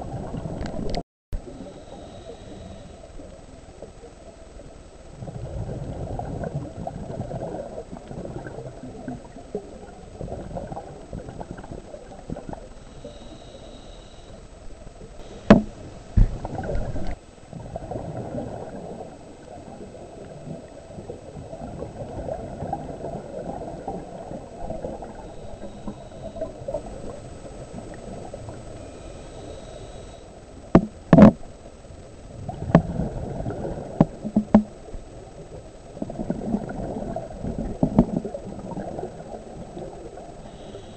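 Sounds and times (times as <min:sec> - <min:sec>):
underwater bubbles and regulator breathing: 0:00.0 - 0:40.9.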